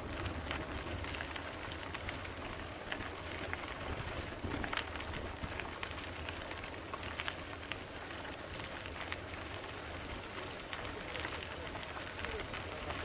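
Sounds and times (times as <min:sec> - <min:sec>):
bike clicks and rattles: 0:00.0 - 0:13.0.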